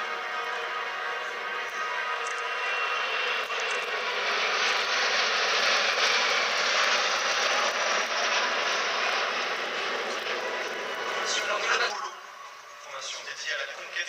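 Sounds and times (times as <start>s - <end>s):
jets roaring overhead: 0.0s - 14.0s.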